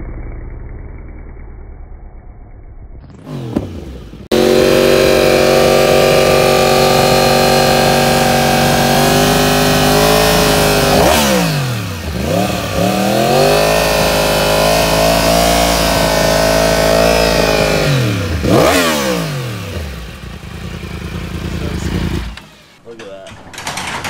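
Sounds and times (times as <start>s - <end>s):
motorcycle engine revving hard: 3.1s - 22.8s.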